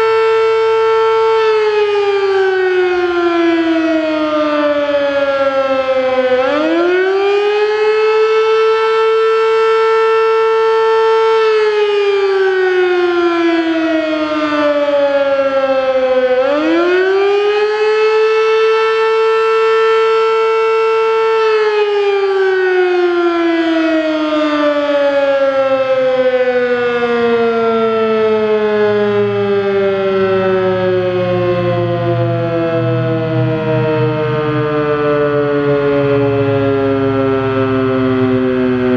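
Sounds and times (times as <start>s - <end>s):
electromechanical siren wailing: 0.0s - 38.9s.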